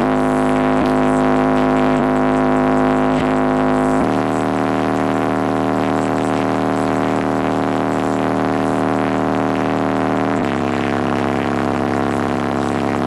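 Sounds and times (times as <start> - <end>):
bass-heavy music through subwoofer: 0.0 - 13.0.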